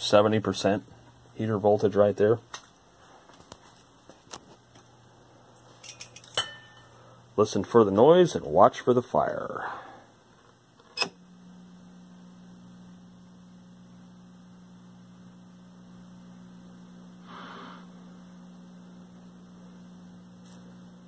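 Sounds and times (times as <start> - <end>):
low mains hum from tv speaker: 0.0 - 21.0
soft hiss: 0.0 - 21.0.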